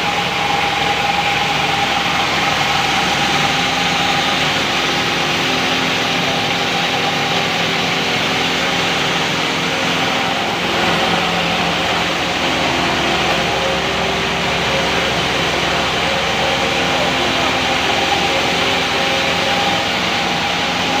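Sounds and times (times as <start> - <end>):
dense mechanical din: 0.0 - 21.0
feeding machine motor hum: 0.0 - 21.0.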